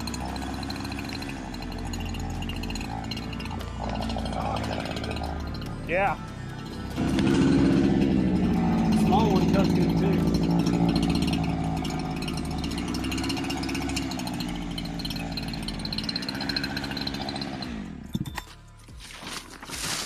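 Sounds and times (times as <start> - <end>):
chainsaw cutting log: 0.0 - 18.2.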